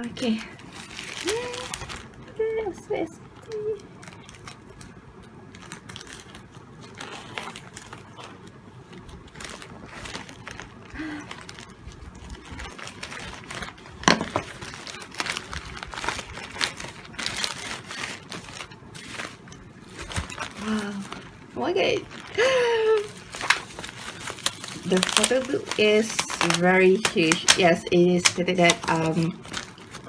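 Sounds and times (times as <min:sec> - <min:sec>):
plastic mailer rustling: 0:00.1 - 0:04.9, 0:05.5 - 0:30.0.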